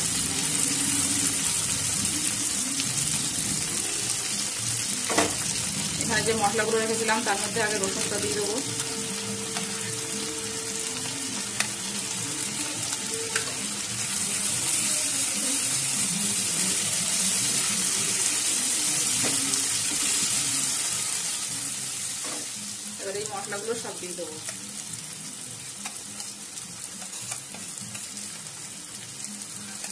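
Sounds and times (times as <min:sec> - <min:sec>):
vegetables sizzling in hot oil: 0:00.0 - 0:29.9.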